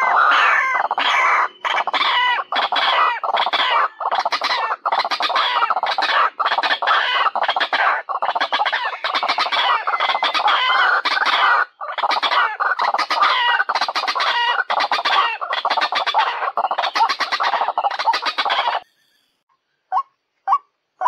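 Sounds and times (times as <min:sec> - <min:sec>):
bird croaking and clucking: 0:00.0 - 0:18.9, 0:19.9 - 0:20.8.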